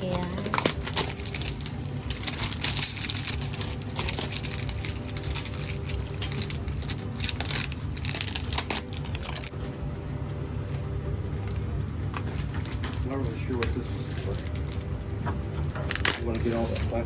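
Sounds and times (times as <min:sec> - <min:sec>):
plastic film crinkling: 0:00.0 - 0:17.0
steady low hum: 0:00.0 - 0:17.0.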